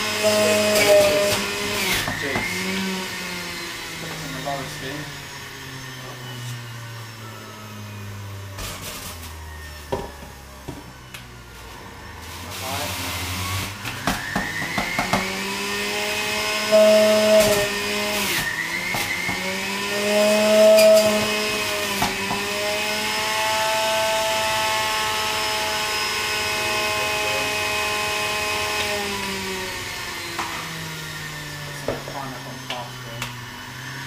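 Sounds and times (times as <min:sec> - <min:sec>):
juicer motor whining: 0:00.0 - 0:34.0.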